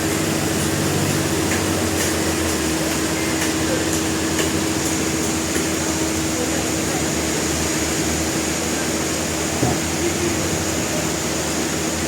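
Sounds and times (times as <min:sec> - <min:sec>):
sawmill machinery humming: 0:00.0 - 0:12.0.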